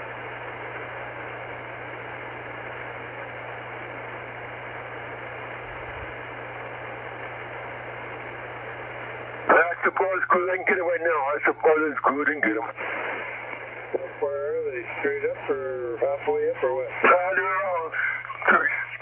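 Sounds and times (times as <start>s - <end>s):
radio receiver static hiss: 0.0s - 19.0s.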